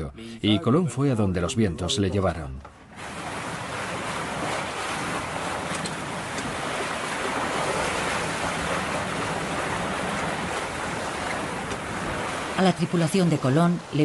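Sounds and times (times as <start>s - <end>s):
wind and sea water rushing: 2.8s - 14.0s.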